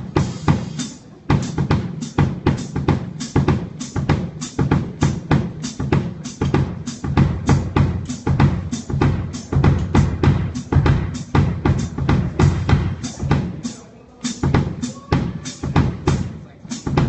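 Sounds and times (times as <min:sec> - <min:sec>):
drum kit steady beat: 0:00.0 - 0:17.0.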